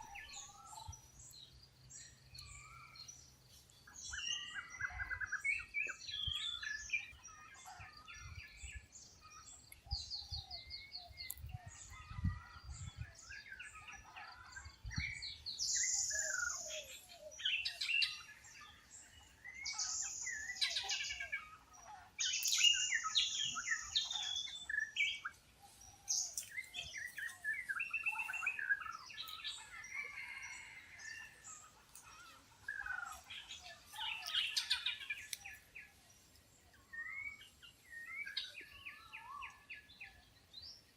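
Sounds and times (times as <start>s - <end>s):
wild birds chirping and calling: 0.0s - 40.9s.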